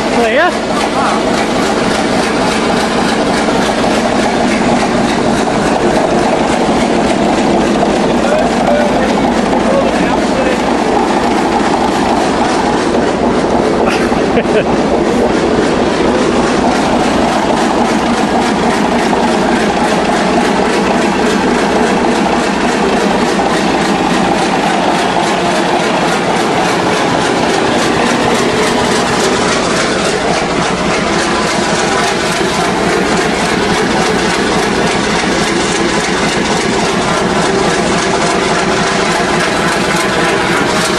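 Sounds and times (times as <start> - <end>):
diesel engine clattering: 0.0 - 40.9.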